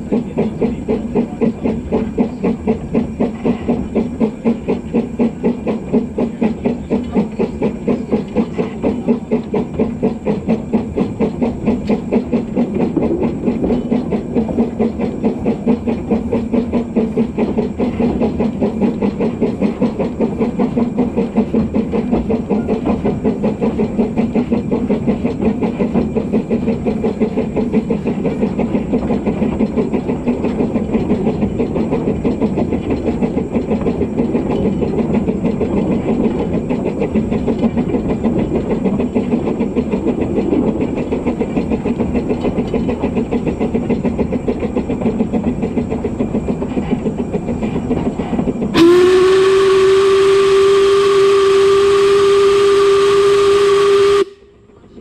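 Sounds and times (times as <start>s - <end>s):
steam locomotive exhaust beats: 0.0s - 55.0s.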